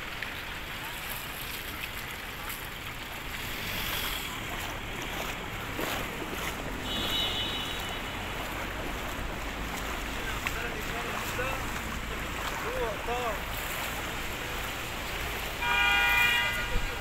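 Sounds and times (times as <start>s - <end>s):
floodwater lapping and sloshing: 0.0s - 17.0s.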